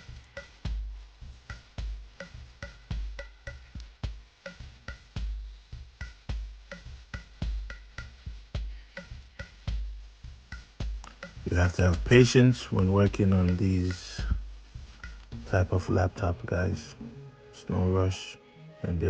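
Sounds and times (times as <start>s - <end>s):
programmed drum beat: 0.0s - 17.2s.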